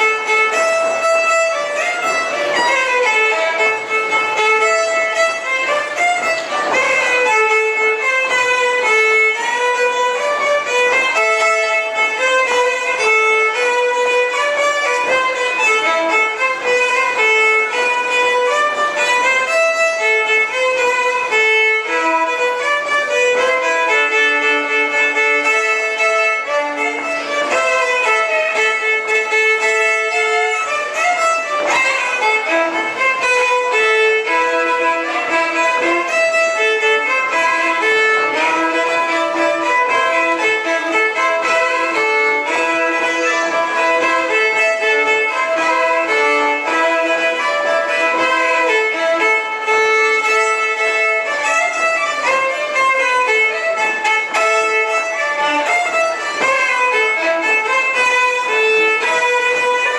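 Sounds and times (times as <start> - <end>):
fiddle playing a dance tune: 0.0 - 59.9.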